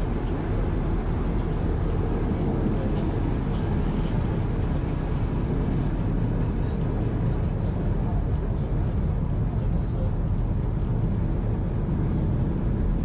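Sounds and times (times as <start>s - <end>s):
diesel engine and wheel rumble: 0.0s - 13.0s.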